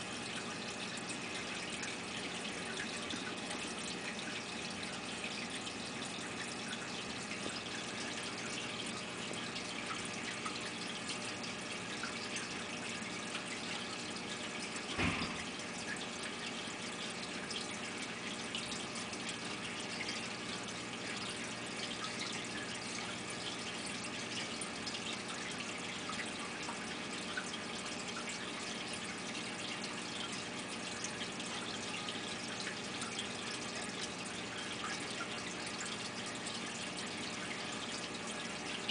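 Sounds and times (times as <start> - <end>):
running water trickling: 0.0 - 38.9
water drips: 0.0 - 38.9.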